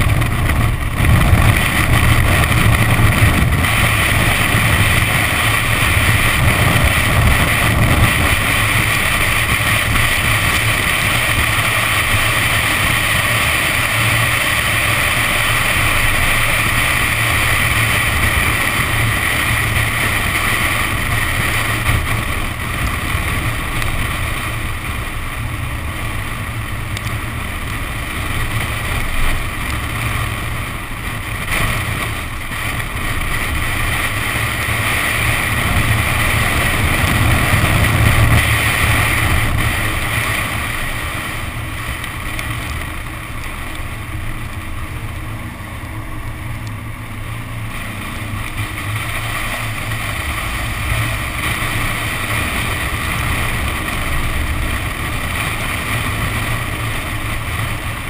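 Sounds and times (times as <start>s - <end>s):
car engine: 0.0s - 58.0s
wind rushing over camera: 0.0s - 58.0s.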